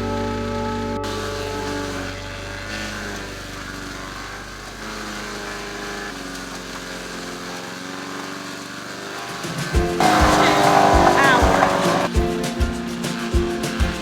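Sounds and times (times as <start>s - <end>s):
wood chipper engine running: 0.0s - 14.0s.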